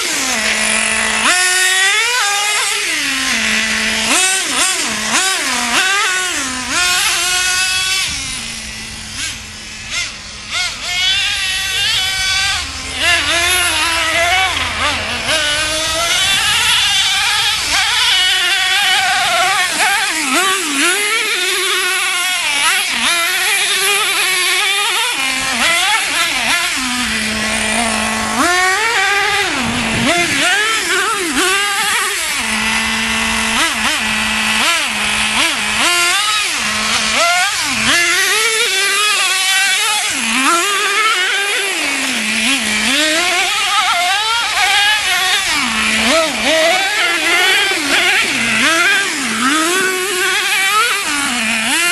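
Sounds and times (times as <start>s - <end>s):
small nitro engine revving: 0.0s - 51.9s.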